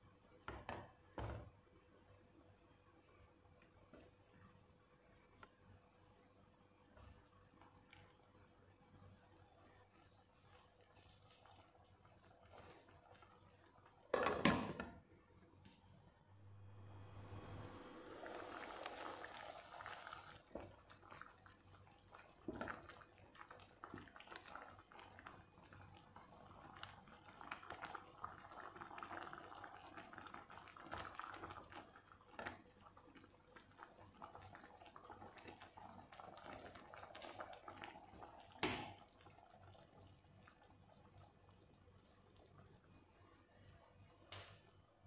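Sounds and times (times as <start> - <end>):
curry bubbling in a pot: 0.0 - 15.5, 16.6 - 45.0.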